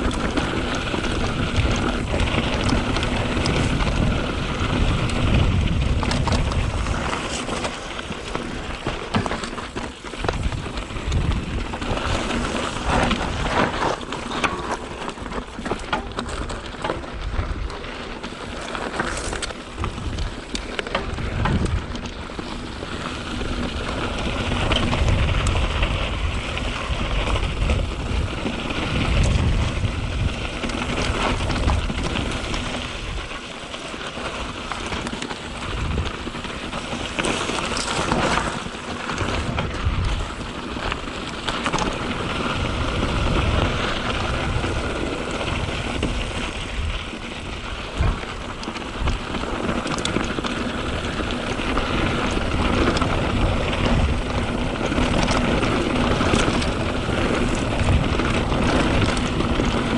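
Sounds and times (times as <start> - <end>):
bike frame and chain rattling: 0.0 - 59.9
bike tyres crackling over dirt: 0.0 - 59.9
wind rumble on microphone: 0.0 - 59.9.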